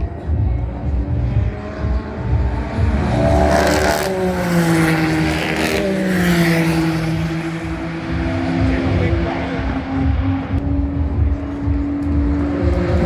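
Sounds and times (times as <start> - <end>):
race car engine passing by: 1.0 - 13.0.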